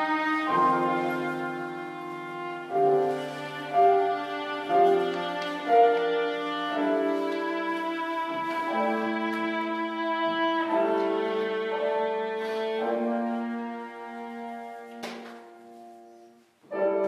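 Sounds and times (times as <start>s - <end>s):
piano playing: 0.0s - 17.0s
viola bowed notes: 0.0s - 17.0s.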